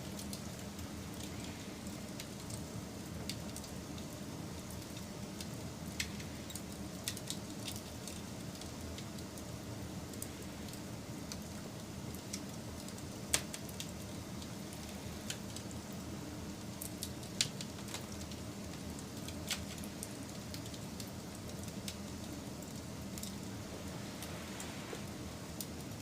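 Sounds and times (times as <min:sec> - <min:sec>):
fire crackles and pops: 0:00.0 - 0:26.0
wood fire burning: 0:00.0 - 0:26.0.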